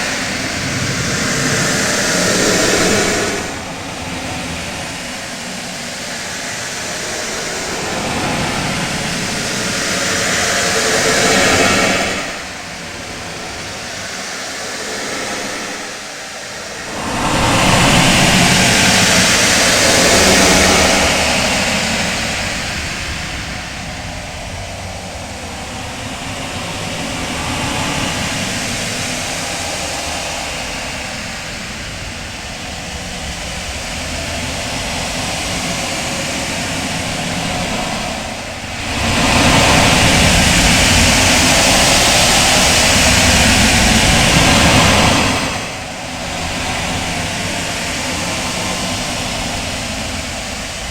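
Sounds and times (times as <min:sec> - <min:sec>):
rumbling synthetic space ambience: 0:00.0 - 0:50.9.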